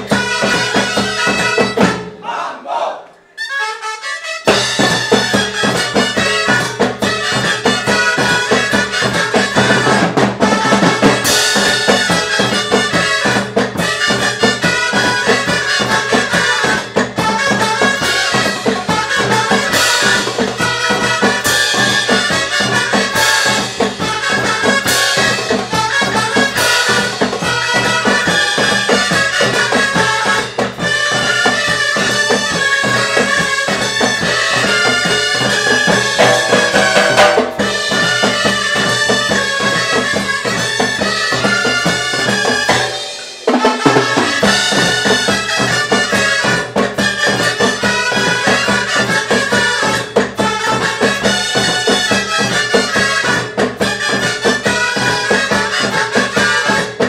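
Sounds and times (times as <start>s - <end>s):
harmonica ensemble playing: 0.0s - 2.2s, 3.2s - 57.0s
drum kit steady beat: 0.0s - 2.4s, 4.5s - 57.0s.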